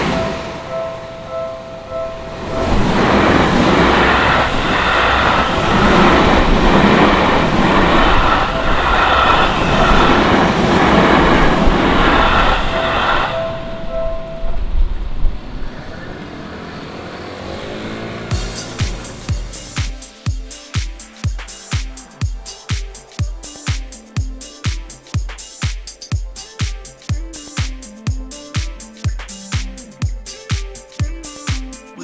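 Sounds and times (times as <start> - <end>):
electronic crossing warning bells: 0.0 - 32.0
train wheels running on rails: 0.0 - 32.0.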